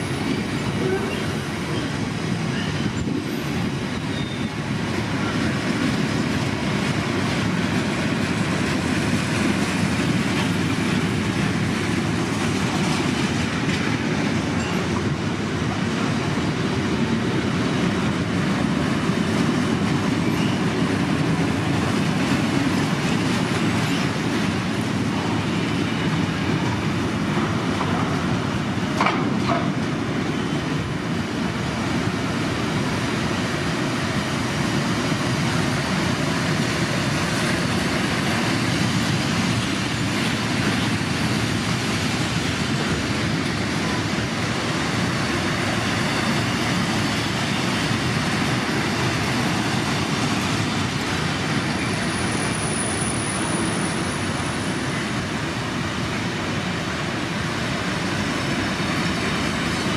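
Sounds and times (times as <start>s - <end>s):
freight train rolling past: 0.0s - 59.9s
sharp clicks of wheels on rails: 0.0s - 59.9s.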